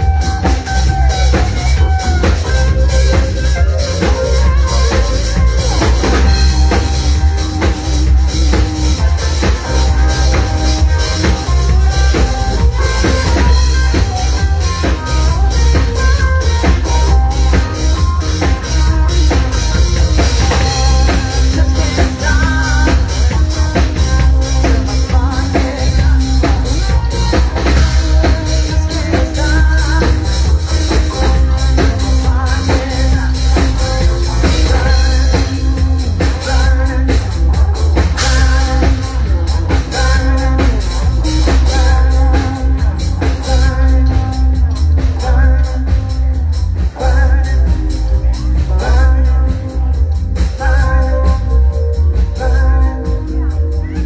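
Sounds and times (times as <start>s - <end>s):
drum kit beat: 0.0s - 54.0s
heavy bass: 0.0s - 54.0s
loud band music: 0.0s - 54.0s
person singing: 0.0s - 54.0s.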